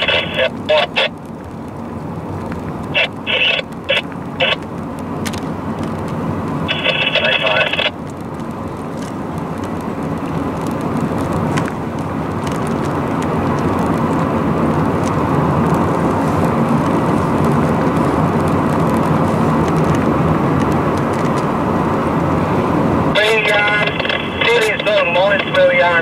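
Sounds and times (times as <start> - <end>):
tyre and engine rumble: 0.0 - 26.0.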